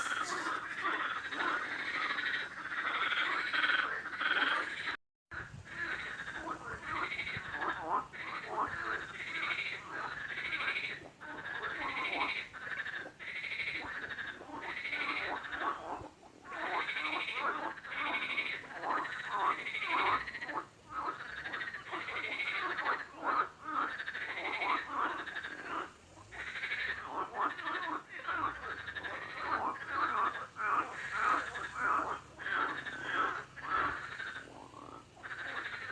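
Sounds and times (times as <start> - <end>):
frogs croaking in chorus: 0.0 - 35.9.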